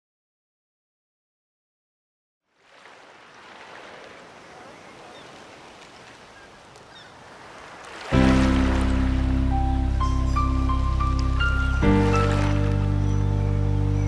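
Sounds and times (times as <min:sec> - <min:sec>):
wind: 0:02.4 - 0:14.0
water rushing around a boat: 0:02.5 - 0:14.0.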